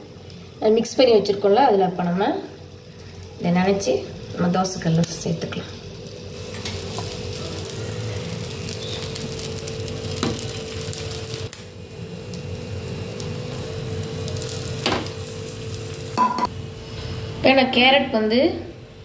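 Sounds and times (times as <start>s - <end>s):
bread sizzling in butter: 0.0s - 16.5s.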